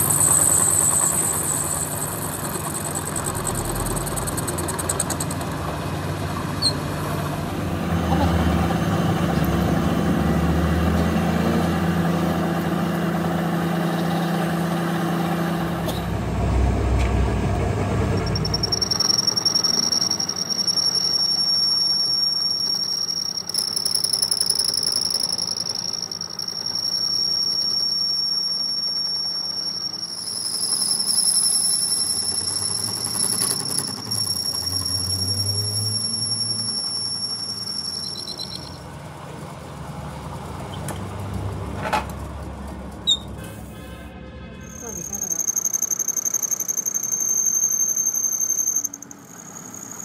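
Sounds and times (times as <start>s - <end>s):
lathe low running hum: 0.0s - 44.9s
abrasive wheel squealing whine: 0.0s - 50.0s.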